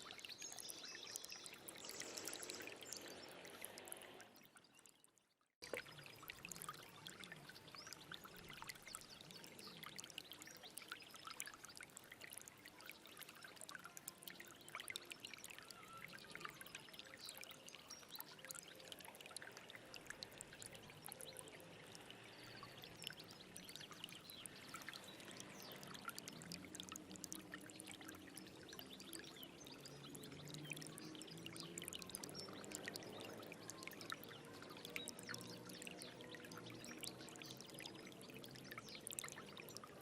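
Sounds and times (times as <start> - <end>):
stream water trickling: 0.0 - 40.0.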